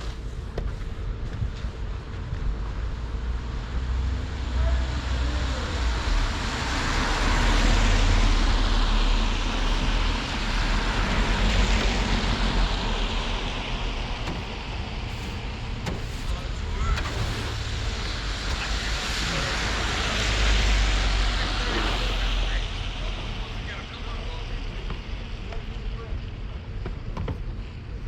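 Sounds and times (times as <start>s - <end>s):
road traffic passing: 2.4s - 27.1s.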